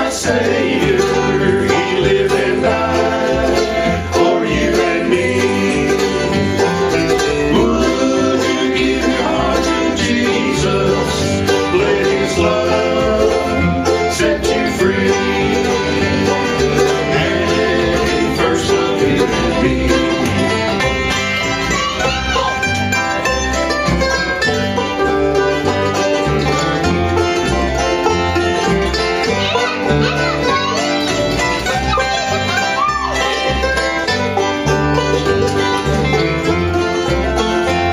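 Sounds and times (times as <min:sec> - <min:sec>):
bluegrass band playing: 0:00.0 - 0:37.9.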